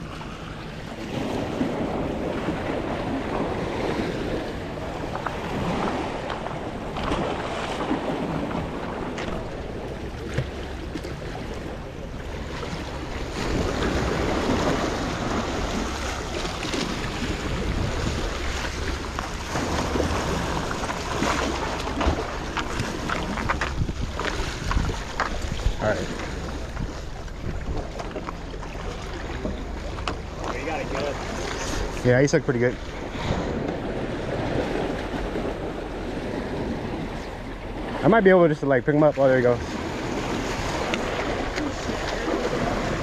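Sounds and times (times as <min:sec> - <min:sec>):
wind buffeting microphone: 0:00.0 - 0:38.8
surf splashing against rocks: 0:00.0 - 0:43.0.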